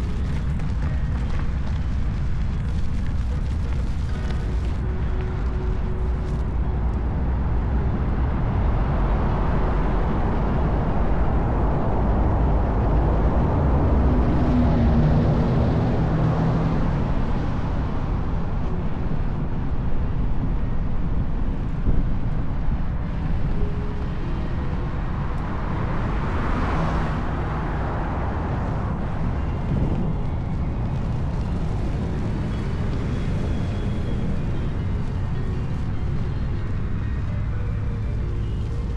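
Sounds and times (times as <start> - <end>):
vehicles passing: 0.0 - 38.9
wind rumble on microphone: 0.0 - 38.9.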